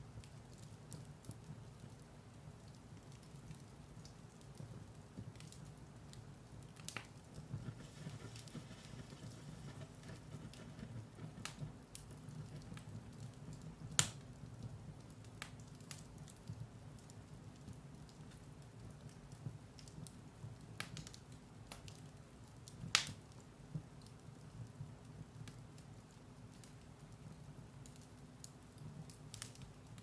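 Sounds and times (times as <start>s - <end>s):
fire crackling in a fireplace: 0.0s - 30.0s.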